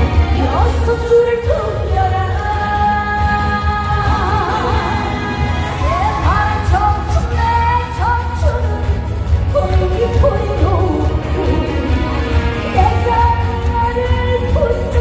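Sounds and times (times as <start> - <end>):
band accompaniment: 0.0 - 15.0
woman singing: 0.0 - 15.0.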